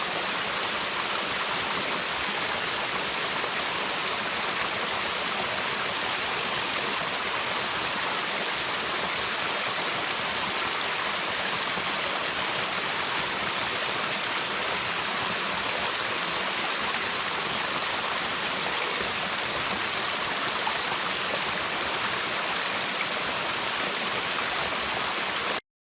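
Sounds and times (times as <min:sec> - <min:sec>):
waterfall rushing: 0:00.0 - 0:25.6.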